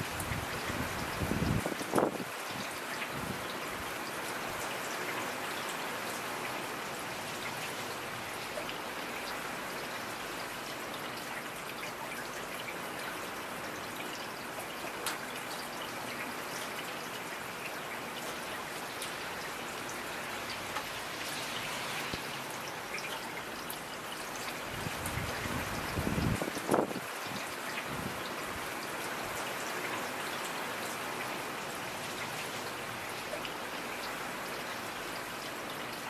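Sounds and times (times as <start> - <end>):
steady rain hiss: 0.0 - 36.0.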